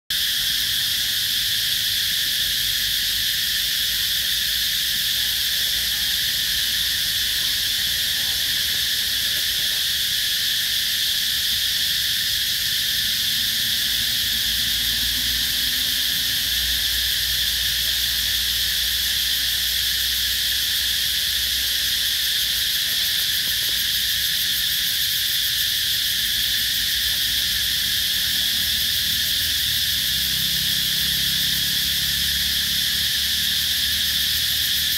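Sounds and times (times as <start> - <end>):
insects chorus shrill drone: 0.1 - 34.9.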